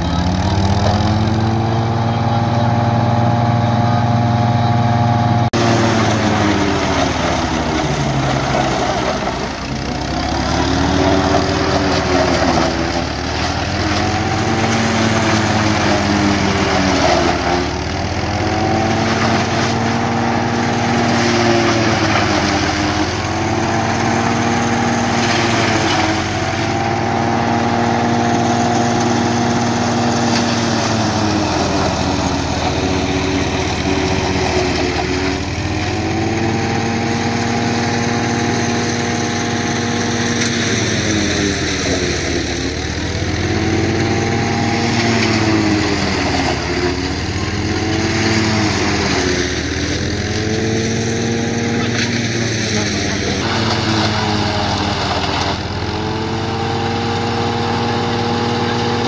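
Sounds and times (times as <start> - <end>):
tractor diesel engine labouring: 0.0 - 59.0.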